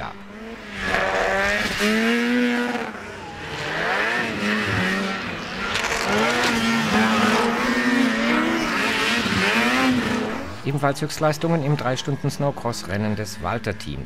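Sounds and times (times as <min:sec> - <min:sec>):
snowmobile engines revving: 0:00.0 - 0:13.6.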